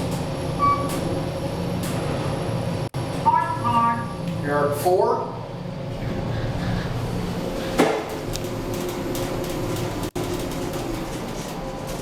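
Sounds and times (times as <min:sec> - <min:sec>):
elevator machine hum: 0:00.0 - 0:12.0.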